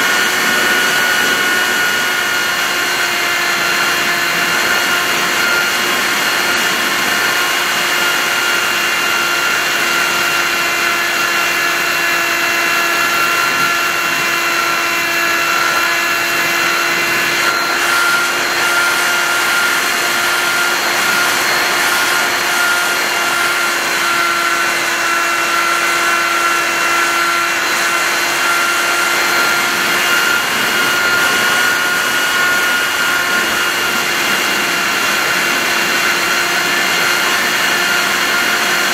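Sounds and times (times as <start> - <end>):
model plane motor whine: 0.0 - 38.9.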